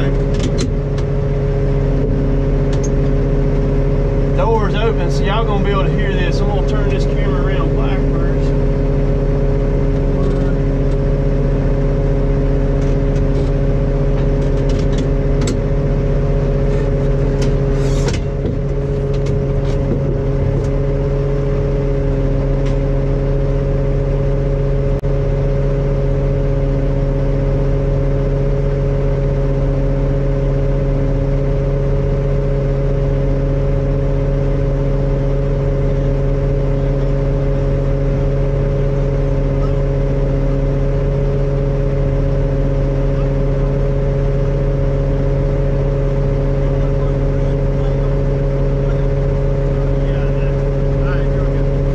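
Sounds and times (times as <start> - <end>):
diesel engine running steadily: 0.0 - 51.9.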